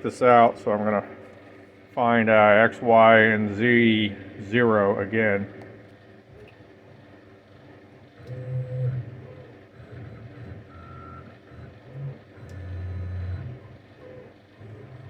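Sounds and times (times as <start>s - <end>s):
machine axis drives humming: 0.0s - 15.0s.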